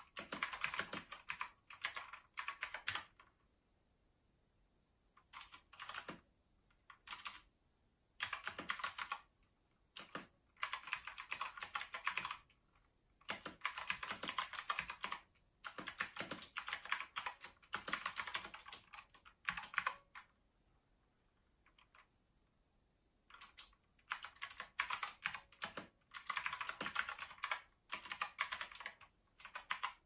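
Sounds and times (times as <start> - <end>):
clicky keyboard typing: 0.0 - 3.4, 5.2 - 7.5, 8.2 - 20.4, 21.5 - 22.2, 23.2 - 30.0.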